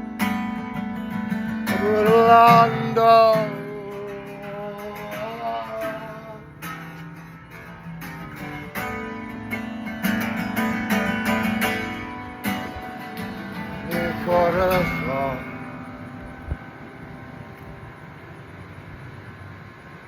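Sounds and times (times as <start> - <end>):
guitar chords strummed: 0.0 - 19.9.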